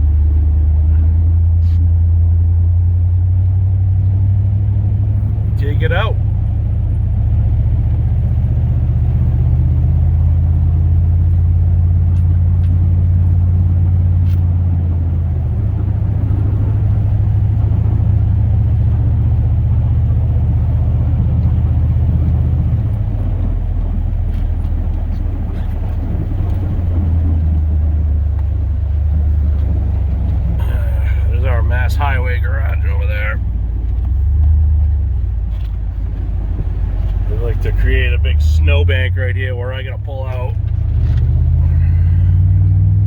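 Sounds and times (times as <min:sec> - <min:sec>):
truck engine droning in cab: 0:00.0 - 0:43.0.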